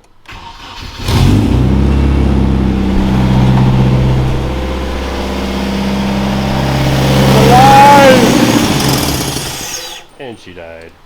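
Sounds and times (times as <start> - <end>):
car engine cranking and running: 0.2 - 10.2.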